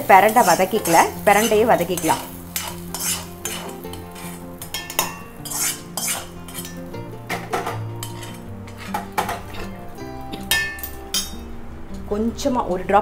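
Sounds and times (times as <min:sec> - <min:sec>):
soft background music: 0:00.0 - 0:13.0
metal spoon scraping a pan: 0:00.1 - 0:11.4.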